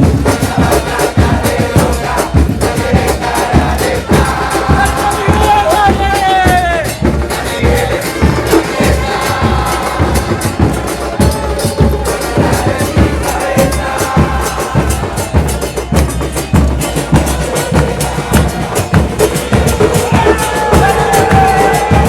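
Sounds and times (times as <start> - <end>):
bass drums beating: 0.0 - 22.0
crowd chanting: 0.0 - 22.0.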